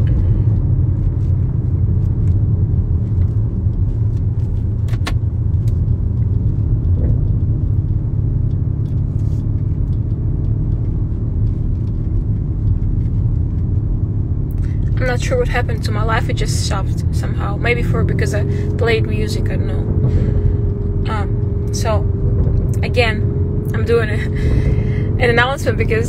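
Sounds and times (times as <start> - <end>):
car interior rumble: 0.0 - 26.0.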